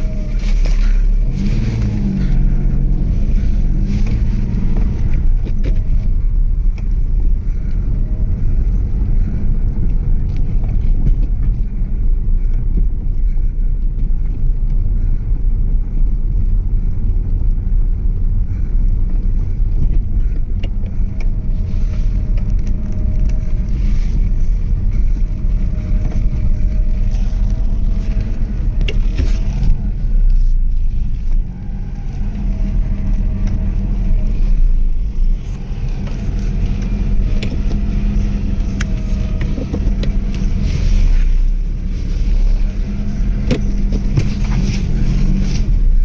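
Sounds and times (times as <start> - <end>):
car engine droning: 0.0 - 46.0.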